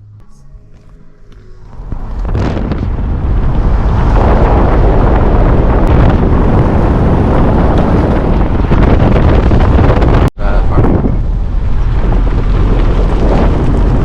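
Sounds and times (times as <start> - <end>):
wind blowing across microphone: 1.6 - 14.0.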